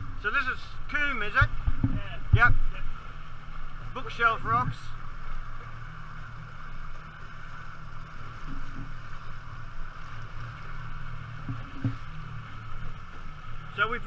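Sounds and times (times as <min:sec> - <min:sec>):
boat motor humming: 0:00.0 - 0:14.0
water washing along hull: 0:00.0 - 0:14.0.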